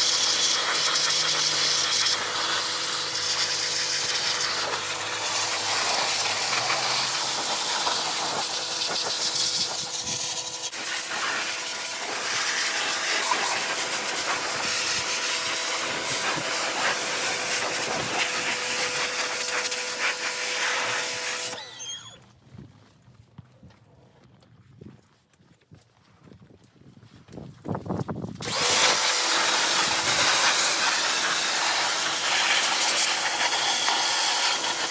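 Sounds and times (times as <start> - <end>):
pressure washer spray hissing: 0.0 - 22.0, 28.4 - 34.9.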